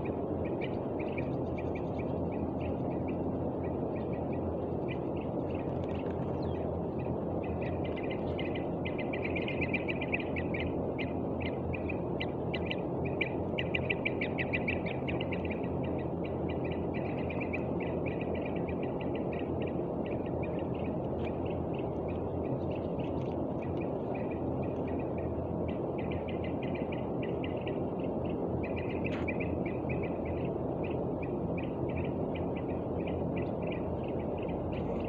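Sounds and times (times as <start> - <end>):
steady low noise: 0.0 - 35.0
young birds chirping: 0.0 - 35.0.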